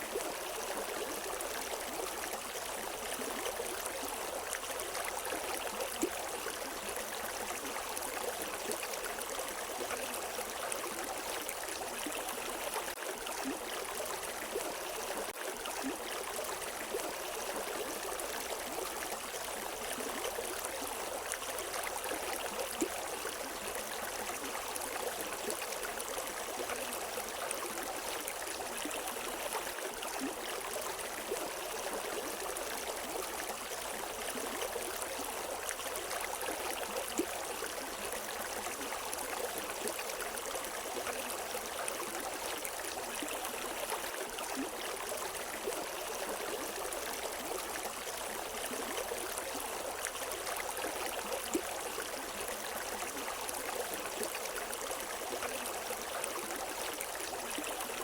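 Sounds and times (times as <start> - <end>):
water gurgling: 0.0 - 58.0.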